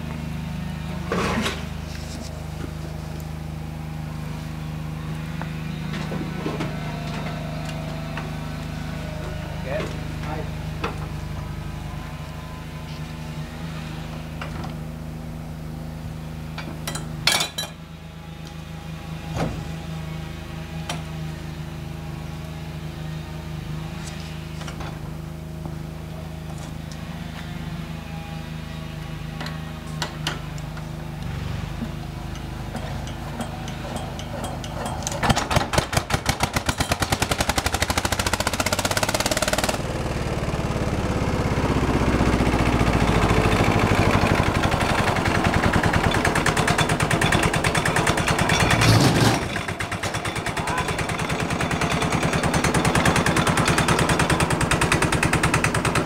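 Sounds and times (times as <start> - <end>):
small engine running: 0.0 - 17.0, 17.8 - 56.0.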